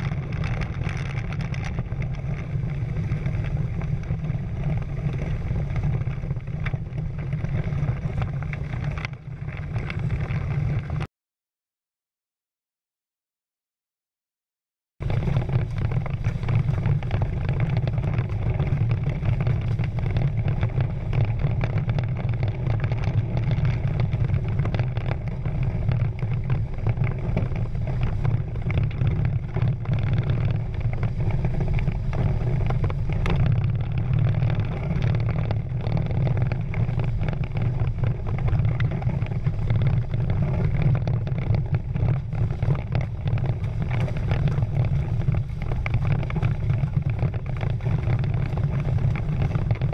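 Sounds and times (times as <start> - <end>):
water rushing along hulls: 0.0 - 11.1, 15.0 - 49.9
wind rumble on microphone: 0.0 - 11.1, 15.0 - 49.9.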